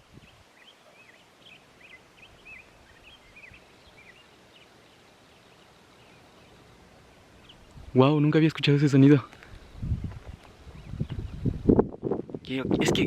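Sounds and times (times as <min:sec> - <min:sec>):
low wind noise: 0:00.0 - 0:13.0.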